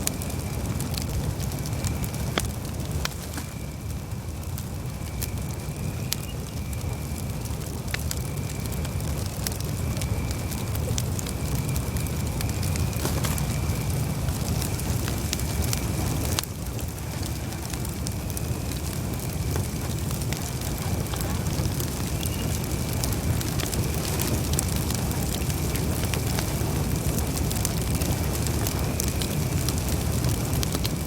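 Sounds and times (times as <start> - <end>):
burning wood crackling and popping: 0.0 - 31.0
campfire flames rumbling: 0.0 - 31.0.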